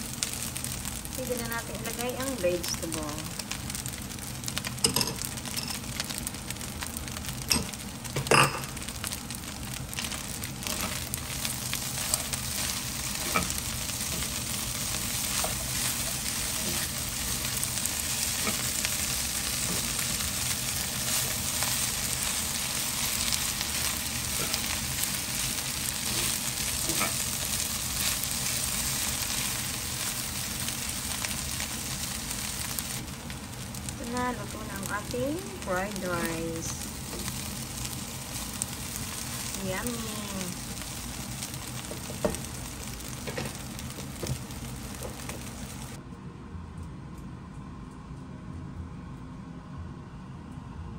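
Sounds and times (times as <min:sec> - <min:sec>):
rice sizzling in a wok: 0:00.0 - 0:46.0.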